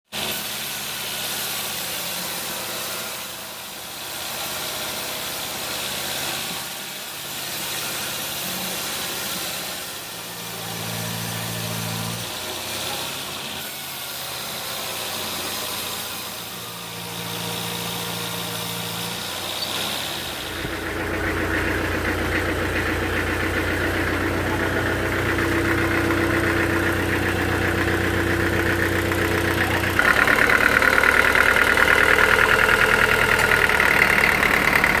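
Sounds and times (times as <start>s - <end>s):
sawmill engine humming: 0.2s - 35.0s.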